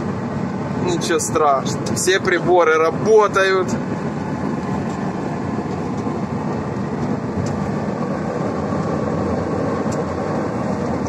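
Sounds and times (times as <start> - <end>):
truck diesel engine drone: 0.0 - 11.0.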